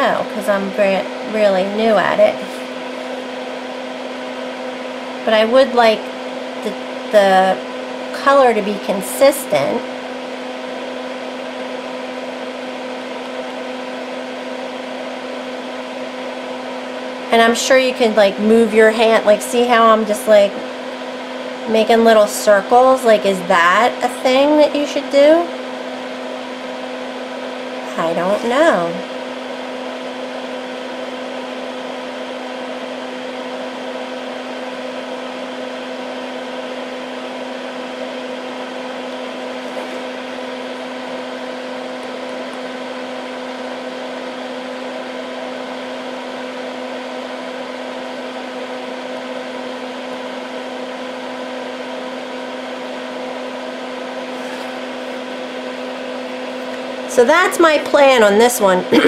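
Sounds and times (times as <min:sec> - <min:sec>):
fan whirring hiss: 0:00.0 - 0:59.0.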